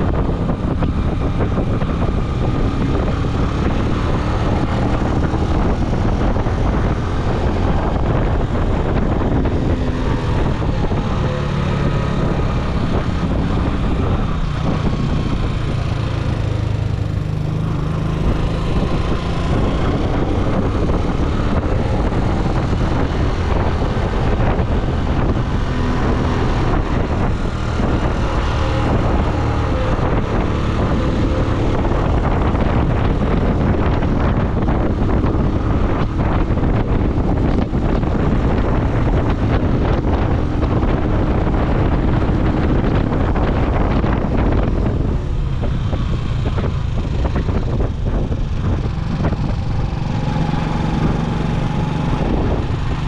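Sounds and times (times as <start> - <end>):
vehicle engine and road noise: 0.0 - 53.0
wind buffeting the microphone: 0.0 - 53.0.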